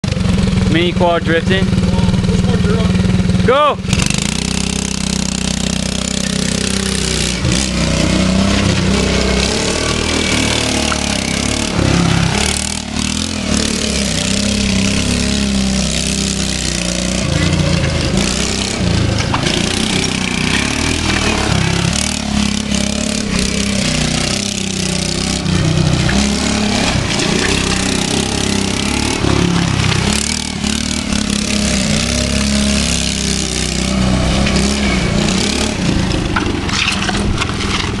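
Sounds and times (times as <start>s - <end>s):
quad engine revving: 0.0s - 38.0s.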